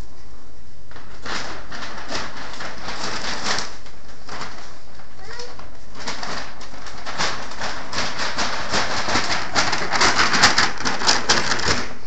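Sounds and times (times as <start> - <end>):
paper bag rustling: 0.9 - 12.0.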